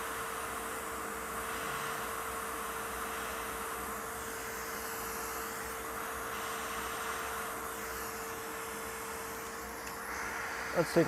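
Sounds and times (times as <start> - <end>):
hot air station hissing: 0.0 - 11.0
mid-pitched whine: 0.0 - 11.0.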